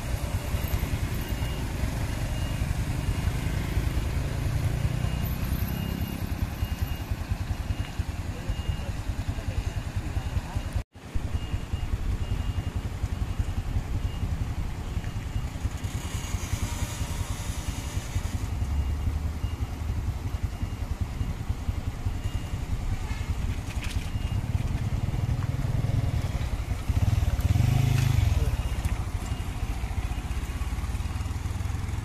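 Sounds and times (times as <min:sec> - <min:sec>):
diesel truck engine labouring: 0:00.0 - 0:32.0.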